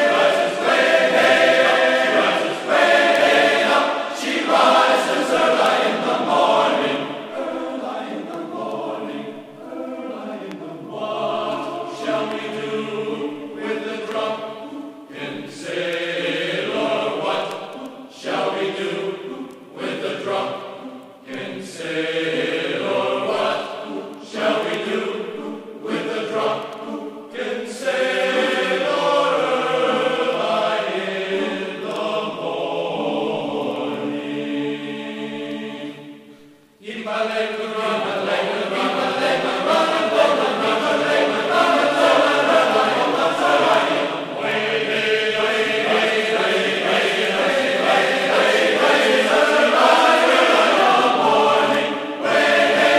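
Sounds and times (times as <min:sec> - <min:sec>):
voices chanting in chorus: 0:00.0 - 0:52.9.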